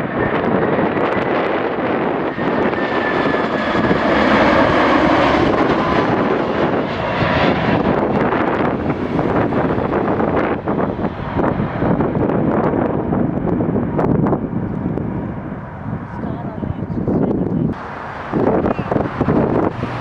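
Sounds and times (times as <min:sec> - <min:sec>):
jet engines passing overhead: 0:00.0 - 0:20.0.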